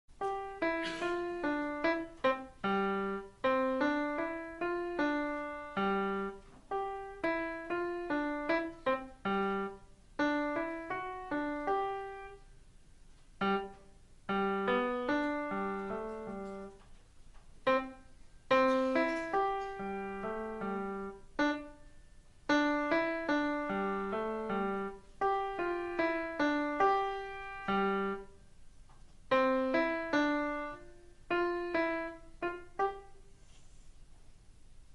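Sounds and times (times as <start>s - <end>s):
solo piano sonatina: 0.1s - 12.6s, 13.3s - 16.9s, 17.6s - 28.6s, 29.2s - 33.5s.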